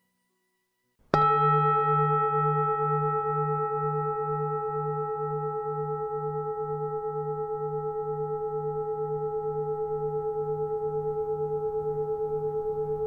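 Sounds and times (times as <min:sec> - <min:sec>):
bowl bell ringing: 0:00.0 - 0:13.0.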